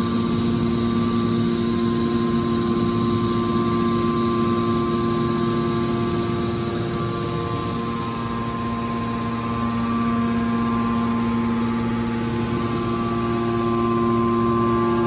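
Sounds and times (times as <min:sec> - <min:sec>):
hydraulic pump motor humming: 0:00.0 - 0:15.0.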